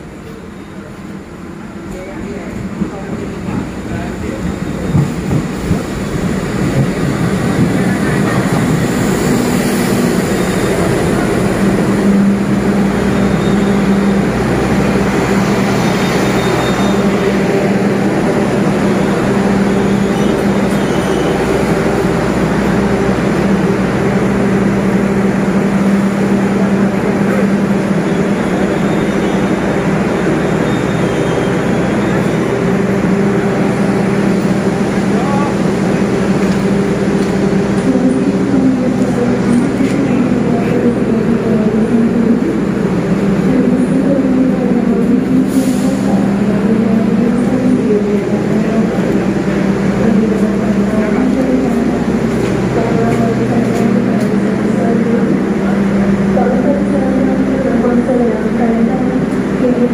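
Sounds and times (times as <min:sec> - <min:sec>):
diesel train engine drone: 0:00.0 - 0:59.9
train coaches rolling past: 0:00.0 - 0:59.9.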